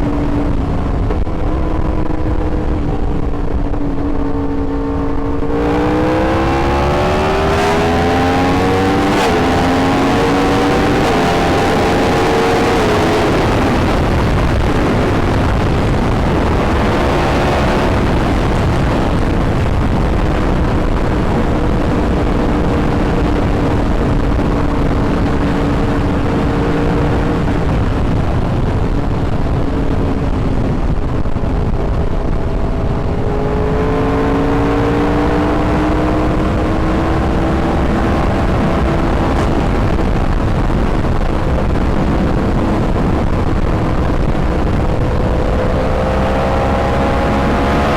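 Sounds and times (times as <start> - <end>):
constant rushing noise: 0.0 - 47.9
motorcycle engine running: 0.0 - 47.9.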